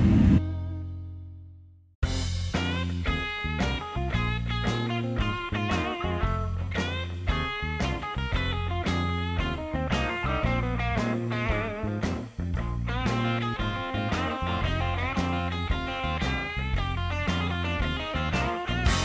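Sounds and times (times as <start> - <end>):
electric guitar music with beat: 0.0 - 1.2, 2.0 - 19.0.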